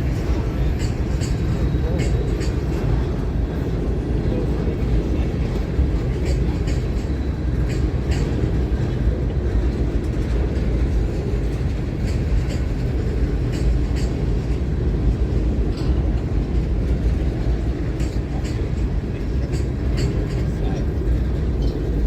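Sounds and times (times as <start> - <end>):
train cars rumbling and clacking: 0.0 - 22.0.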